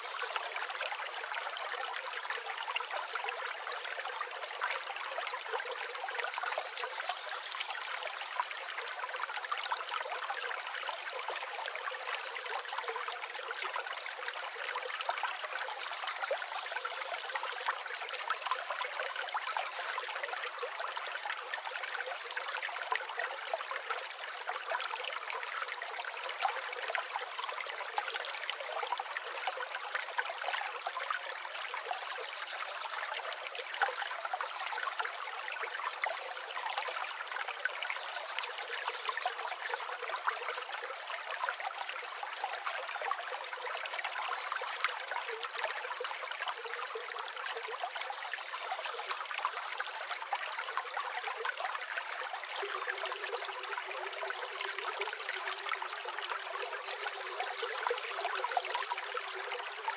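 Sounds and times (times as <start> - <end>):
river water babbling: 0.0 - 59.9.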